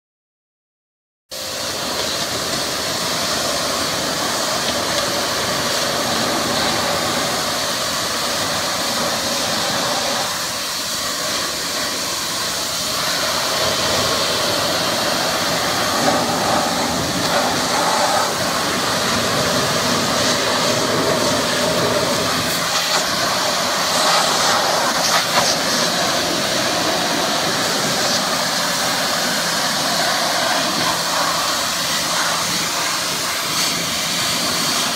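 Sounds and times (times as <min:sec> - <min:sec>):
pressure washer jet hissing: 0:01.3 - 0:34.9.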